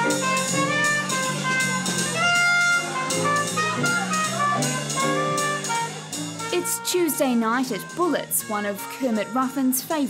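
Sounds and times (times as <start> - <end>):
drum kit hits: 0.0 - 8.6
low bass line: 0.0 - 9.2
jazz band: 0.0 - 10.0
trumpet playing: 0.0 - 10.0.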